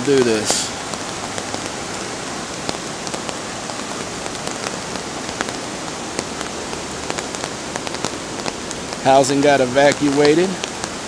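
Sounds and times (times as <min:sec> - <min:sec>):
raindrops ticking close by: 0:00.0 - 0:11.0
steady rain hiss: 0:00.0 - 0:11.0.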